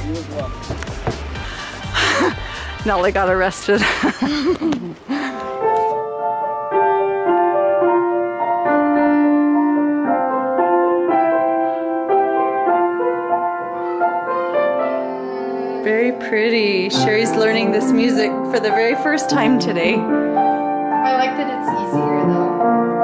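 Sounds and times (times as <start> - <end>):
upright piano playing slow melody: 0.0 - 2.7, 5.0 - 23.0.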